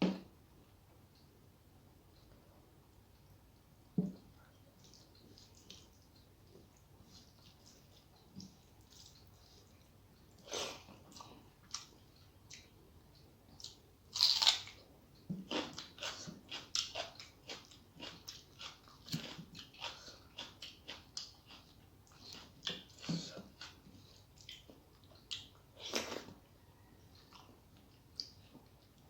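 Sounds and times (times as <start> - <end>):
chewing and mouth sounds: 4.4 - 14.8, 15.4 - 29.0.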